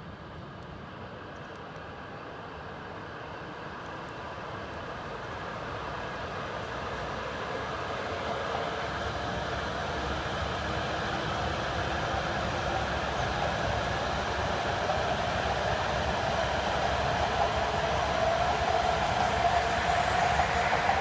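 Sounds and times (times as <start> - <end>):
bullet train running noise: 0.0 - 21.0.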